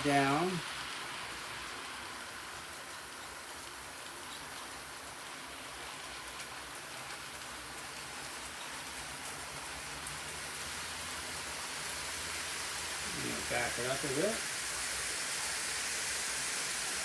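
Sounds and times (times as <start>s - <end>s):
model train wheels on rail: 0.0s - 17.0s.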